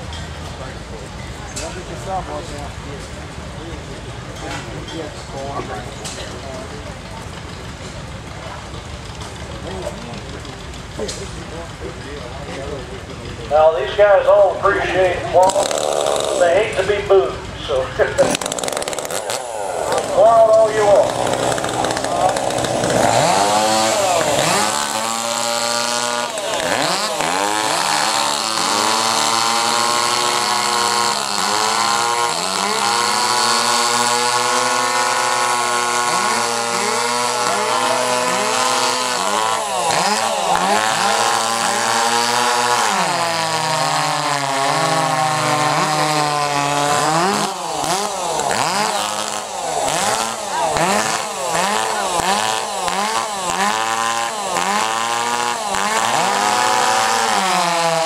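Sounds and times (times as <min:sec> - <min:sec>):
chainsaws cutting through log: 0:01.6 - 0:58.0.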